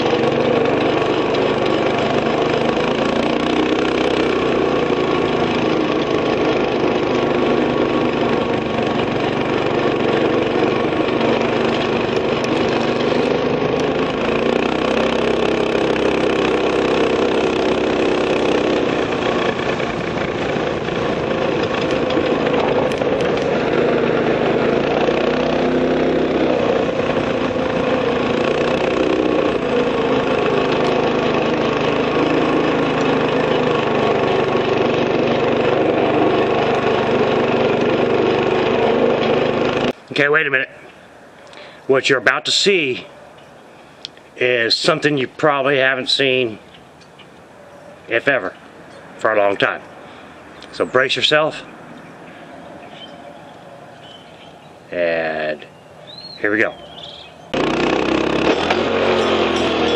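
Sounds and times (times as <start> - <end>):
scooter engine running: 0.0 - 40.5, 51.6 - 59.9.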